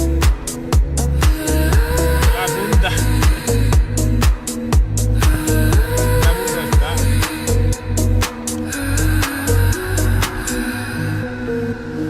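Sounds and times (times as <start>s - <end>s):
instrumental dance music: 0.0s - 10.6s.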